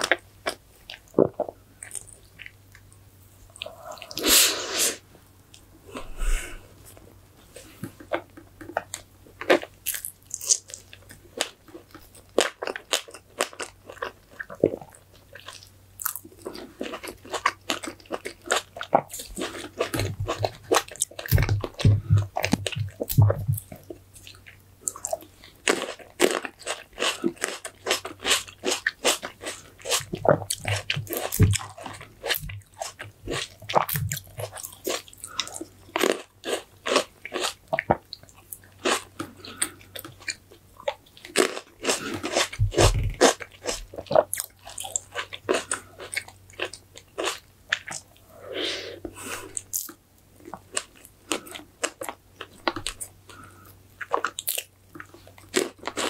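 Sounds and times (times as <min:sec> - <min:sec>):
person chewing crunchy food: 0:00.0 - 0:04.8, 0:05.9 - 0:06.7, 0:07.6 - 0:48.4, 0:49.1 - 0:56.0.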